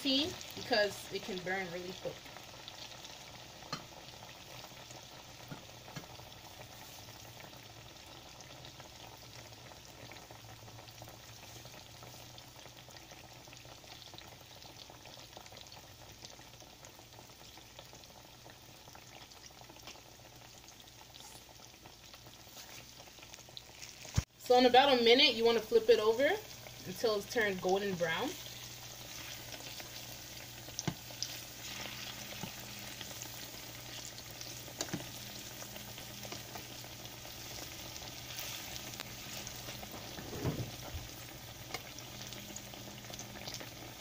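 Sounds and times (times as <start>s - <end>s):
plantains sizzling in hot oil: 0.0s - 44.0s.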